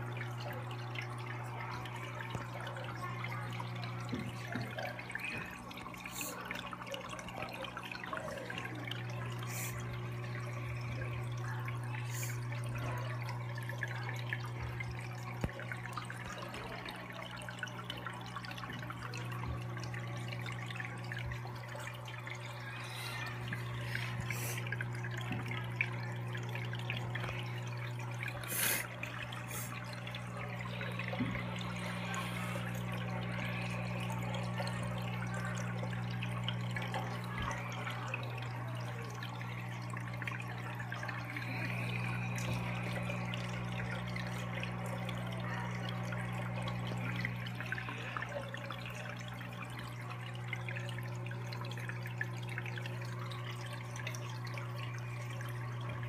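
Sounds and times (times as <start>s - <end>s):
electric hum: 0.0s - 56.0s
water trickling and dripping: 0.0s - 56.0s.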